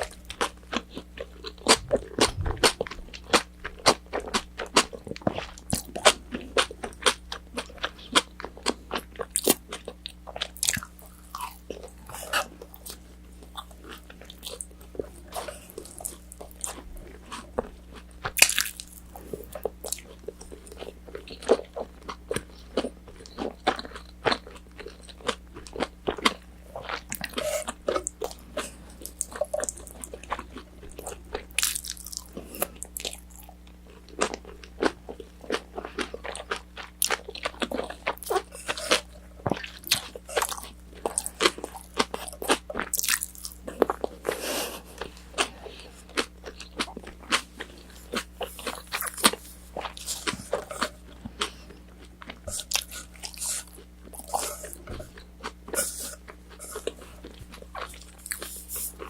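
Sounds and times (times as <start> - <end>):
low steady hum: 0.0 - 59.0
person chewing crispy food: 0.0 - 59.0.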